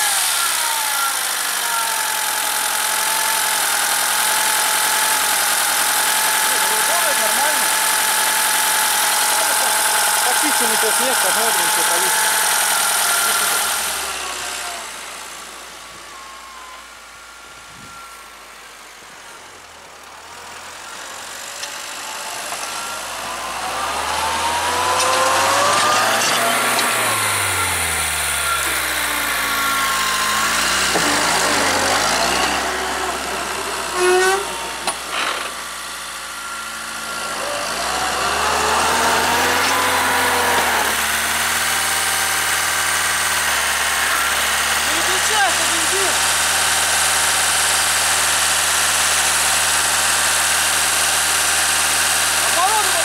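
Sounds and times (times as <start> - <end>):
tractor engine revving: 0.0 - 53.0.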